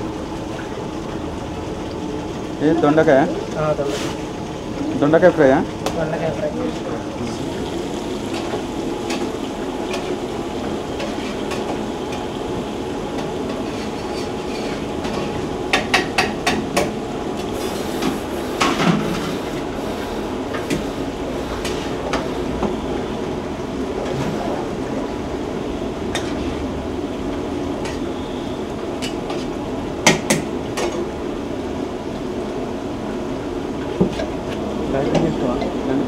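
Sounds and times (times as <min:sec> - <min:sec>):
deep-frying in hot oil sizzling: 0:00.0 - 0:24.0, 0:25.2 - 0:36.0.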